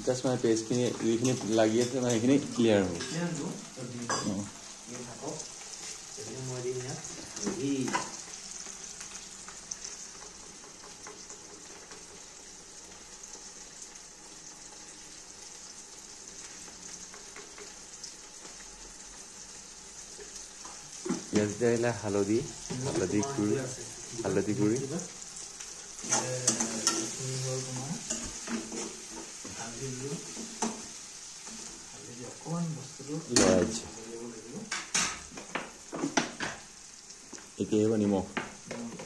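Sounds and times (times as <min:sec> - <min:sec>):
onions frying in oil sizzling: 0:00.0 - 0:39.0.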